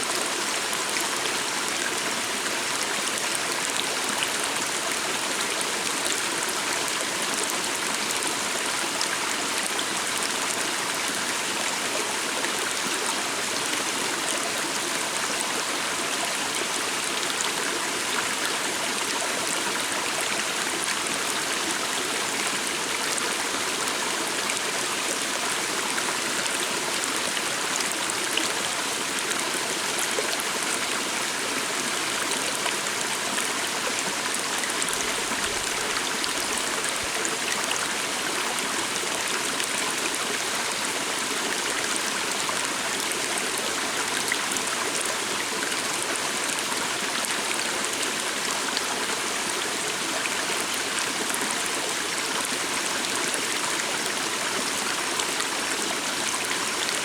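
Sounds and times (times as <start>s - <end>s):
stream babbling: 0.1s - 57.0s.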